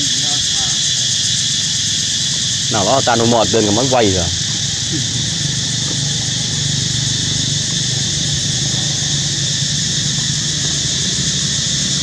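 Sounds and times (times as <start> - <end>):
insect drone: 0.0 - 12.0
steady low hum: 0.0 - 12.0.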